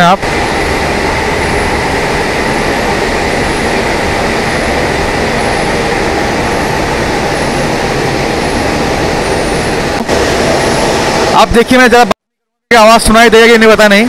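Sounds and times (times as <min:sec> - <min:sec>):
machinery running: 0:00.0 - 0:12.1
steady whine: 0:00.0 - 0:14.0.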